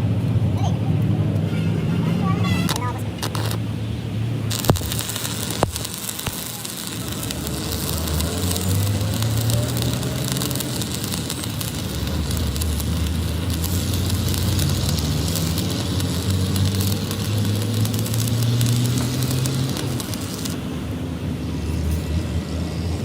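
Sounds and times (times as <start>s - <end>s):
engine humming steadily: 0.0s - 23.0s
crackling hiss: 2.4s - 23.0s.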